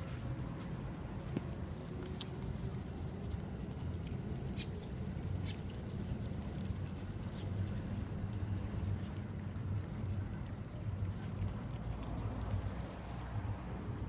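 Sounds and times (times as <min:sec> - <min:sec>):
dog chewing grass: 0:00.0 - 0:14.0
low background rumble: 0:00.0 - 0:14.0.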